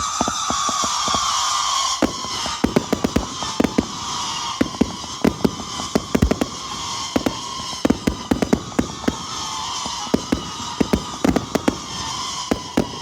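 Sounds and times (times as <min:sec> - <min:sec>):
firework bangs and crackles: 0:00.0 - 0:13.0
high whistling hiss: 0:00.0 - 0:13.0.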